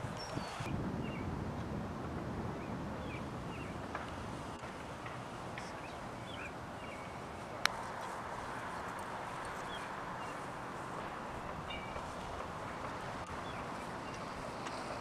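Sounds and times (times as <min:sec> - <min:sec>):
birds chirping: 0:00.0 - 0:01.3, 0:02.5 - 0:15.0.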